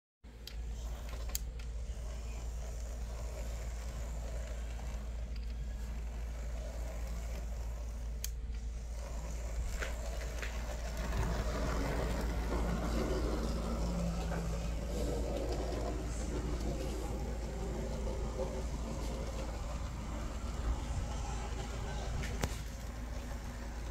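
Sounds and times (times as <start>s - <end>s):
steady low hum: 0.3s - 23.9s
model train motor whir and rattle: 0.4s - 23.9s.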